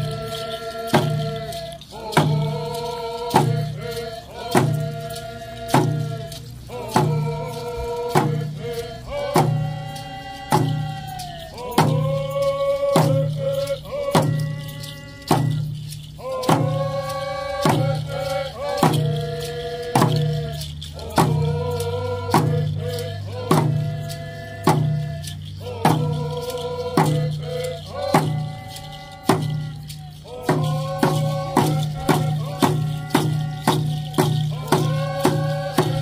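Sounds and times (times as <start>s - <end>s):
steady drum beat: 0.9s - 36.0s.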